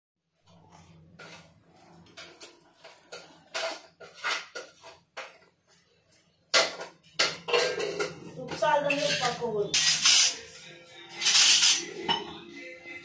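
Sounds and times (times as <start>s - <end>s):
metal pot and utensils clattering: 0.4s - 12.5s.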